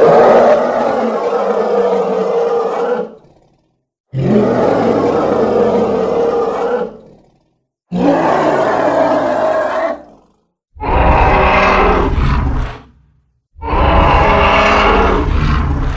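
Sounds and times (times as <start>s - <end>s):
cartoon creature roar: 0.0s - 12.7s, 13.6s - 15.9s.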